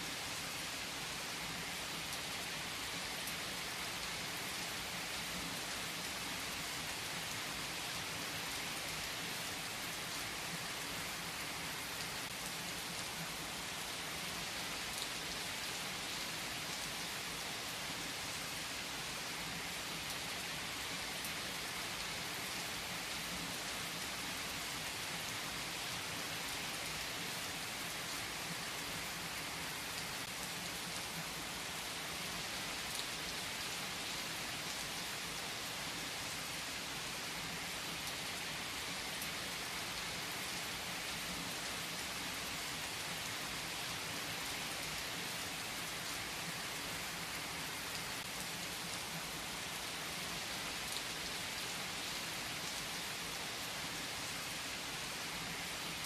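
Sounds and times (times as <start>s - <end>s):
rain pattering on a surface: 0.1s - 56.0s.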